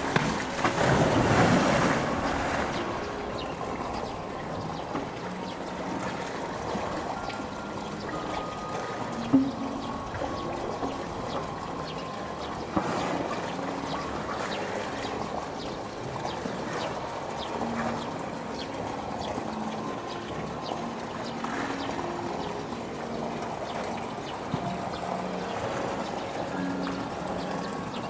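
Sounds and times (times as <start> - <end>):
rushing water: 0.0 - 28.0
water dripping: 0.0 - 28.0
water sloshing and splashing: 0.0 - 28.0.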